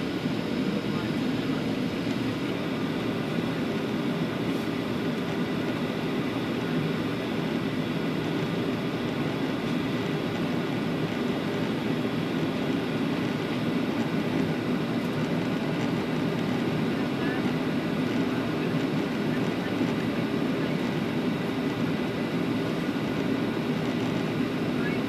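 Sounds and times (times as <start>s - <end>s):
airflow over fuselage: 0.0s - 25.0s
jet engines rushing: 0.0s - 25.0s.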